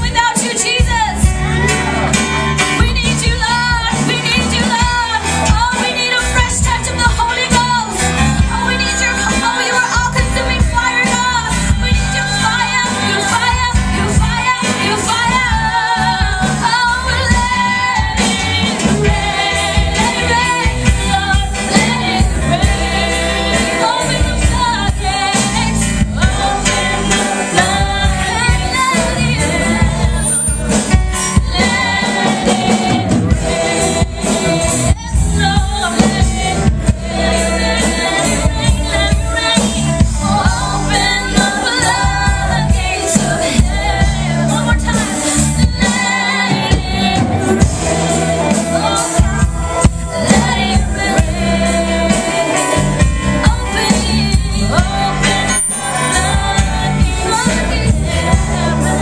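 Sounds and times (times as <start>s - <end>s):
bass line: 0.0s - 59.0s
women singing gospel song: 0.0s - 59.0s.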